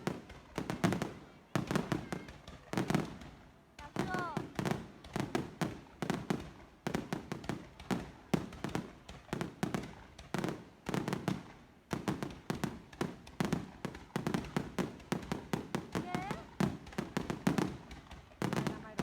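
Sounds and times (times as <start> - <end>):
fireworks bursting with sharp bangs: 0.0 - 19.0.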